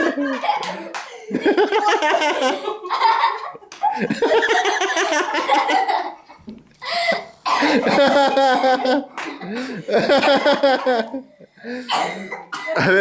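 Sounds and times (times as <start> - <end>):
girls laughing: 0.0 - 11.4.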